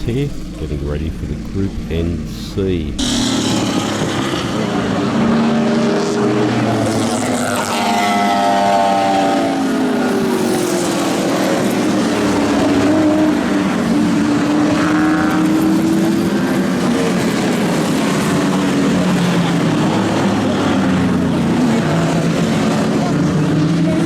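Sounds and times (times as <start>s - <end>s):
race car engines idling and revving: 0.0s - 24.0s.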